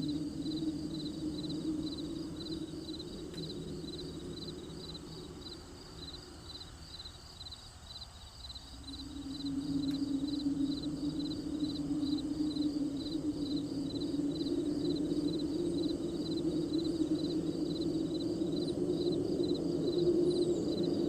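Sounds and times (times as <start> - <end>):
low steady drone: 0.0 - 7.2, 8.6 - 21.0
crickets chirping: 0.0 - 21.0.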